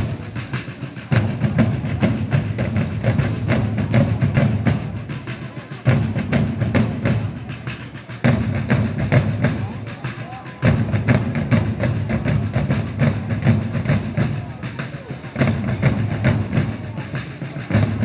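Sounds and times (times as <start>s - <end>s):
deep drum beating: 0.0s - 18.0s
snare drums marching cadence: 0.0s - 18.0s.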